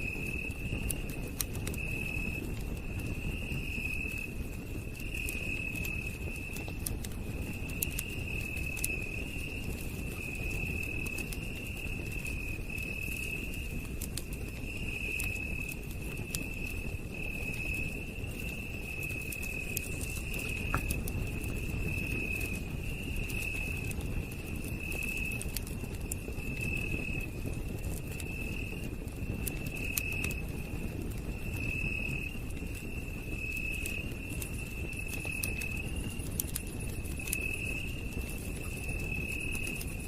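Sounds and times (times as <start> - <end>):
campfire crackling and popping: 0.0 - 40.0
night insects trilling: 0.0 - 40.0.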